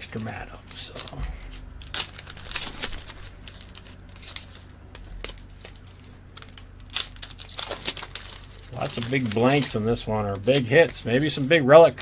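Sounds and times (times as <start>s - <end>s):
plastic rustling and crinkling: 0.0s - 12.0s.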